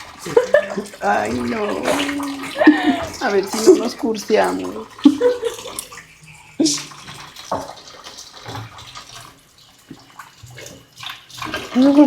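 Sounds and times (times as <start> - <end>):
water running into sink: 0.0 - 12.0.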